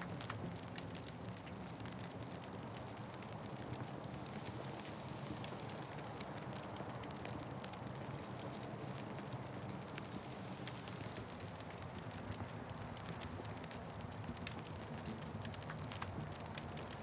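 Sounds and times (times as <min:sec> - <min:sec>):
fireplace fire crackling: 0:00.1 - 0:17.0.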